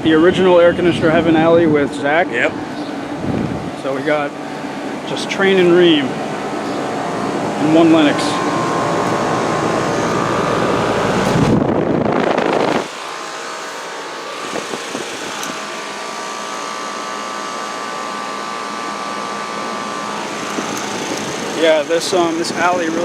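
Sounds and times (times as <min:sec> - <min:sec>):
air conditioner units humming: 0:00.0 - 0:23.0.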